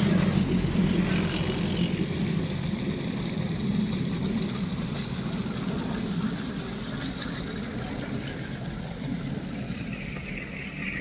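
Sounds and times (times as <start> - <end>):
pump engine running: 0.0 - 11.0
water gushing from pipe: 0.0 - 11.0.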